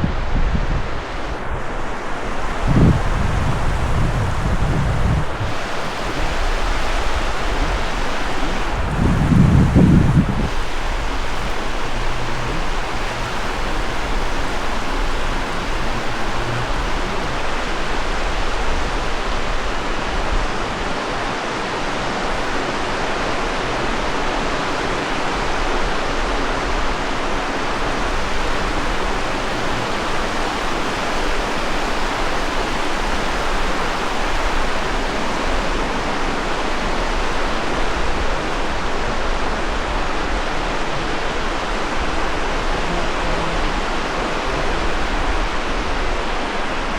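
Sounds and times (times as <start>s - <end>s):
ocean surf on beach: 0.0s - 46.9s
wind buffeting microphone: 0.0s - 46.9s.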